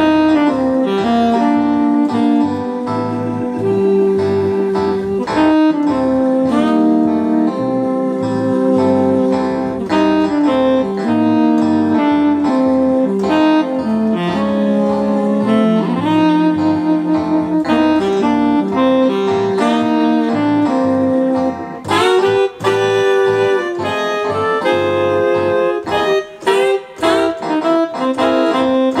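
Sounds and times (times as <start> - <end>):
electronic keyboard tune: 0.0 - 29.0.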